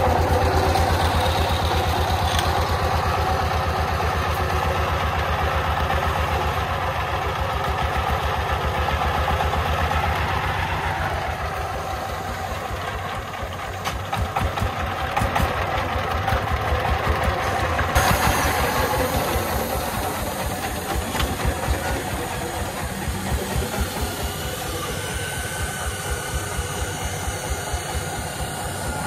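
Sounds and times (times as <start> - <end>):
single-cylinder diesel engine running: 0.0 - 29.0.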